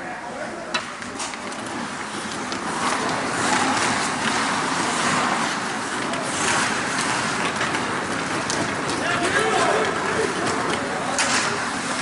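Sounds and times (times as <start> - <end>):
skates scraping on ice: 0.8 - 12.0.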